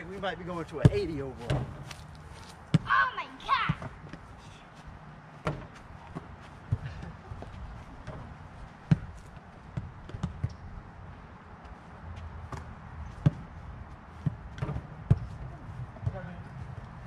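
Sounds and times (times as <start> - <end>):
basketballs bouncing on dirt: 0.6 - 4.3, 5.3 - 10.9, 11.6 - 17.0.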